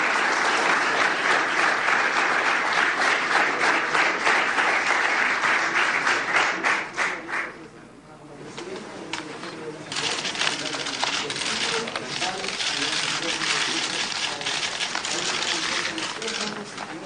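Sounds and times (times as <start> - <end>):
audience applauding: 0.0 - 7.5, 10.0 - 16.6.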